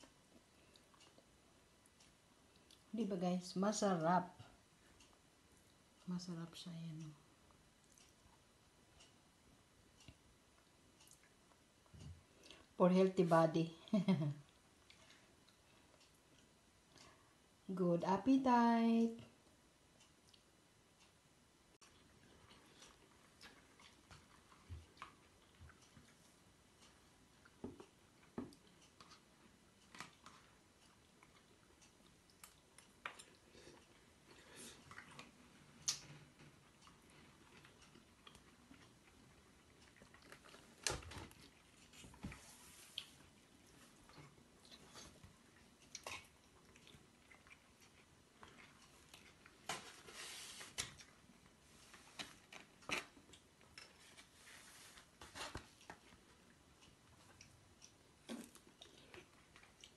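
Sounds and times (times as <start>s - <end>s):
faint chewing crunches: 0.0s - 3.0s, 7.0s - 9.2s, 9.9s - 12.8s, 14.4s - 17.4s, 21.8s - 59.9s.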